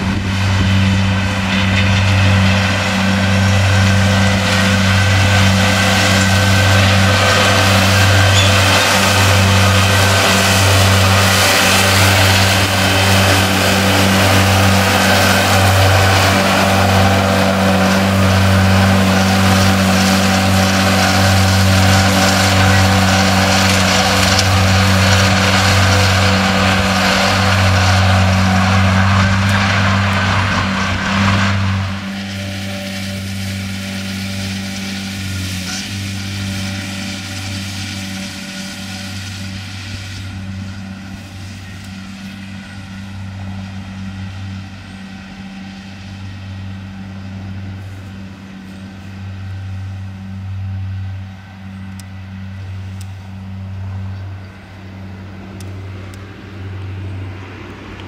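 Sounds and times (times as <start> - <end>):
disc mowers cutting grass: 0.0 - 58.0
tractor engine drone: 0.0 - 58.0.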